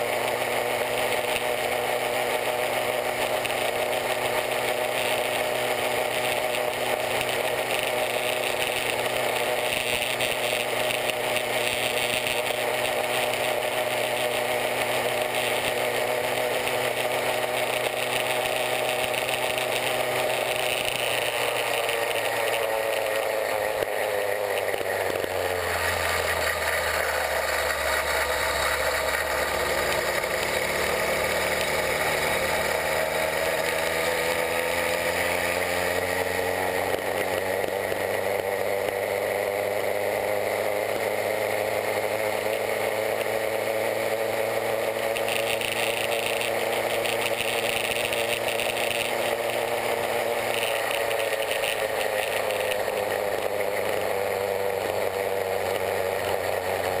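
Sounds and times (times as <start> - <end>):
two-stroke bicycle engine buzzing: 0.0 - 57.0.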